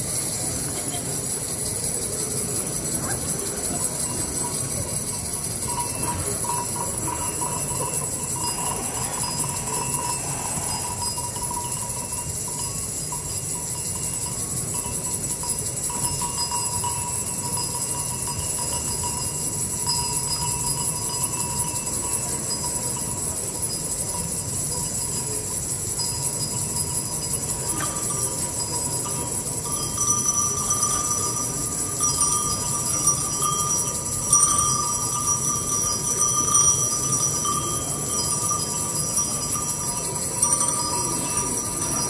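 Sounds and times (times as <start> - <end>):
jingling bell-like shimmer: 0.0 - 42.0.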